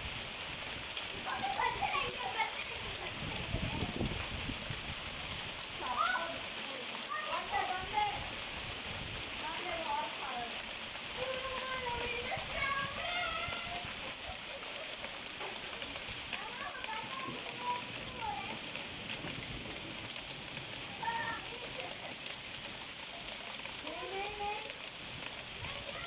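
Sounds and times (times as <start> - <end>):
heavy rain and hail on paving: 0.0 - 26.0.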